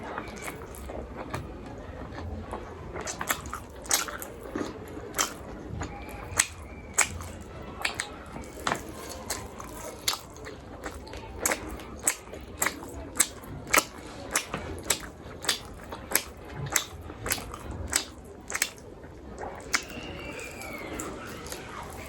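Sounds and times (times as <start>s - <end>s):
chewing with wet mouth clicks: 0.0s - 22.0s.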